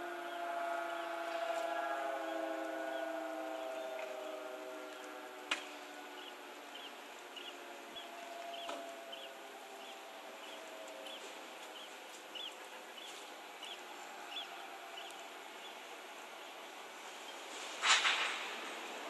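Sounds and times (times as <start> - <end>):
air-raid siren winding down: 0.0 - 17.2.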